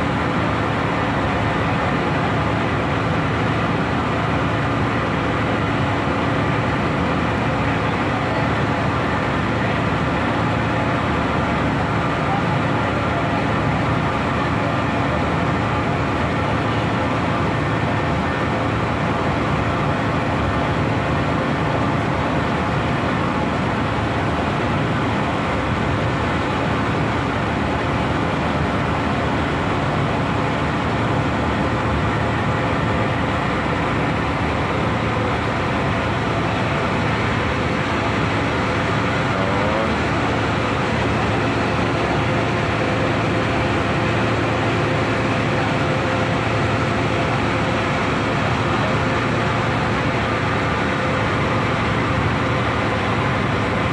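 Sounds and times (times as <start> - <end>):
boat engine droning: 0.0 - 53.9.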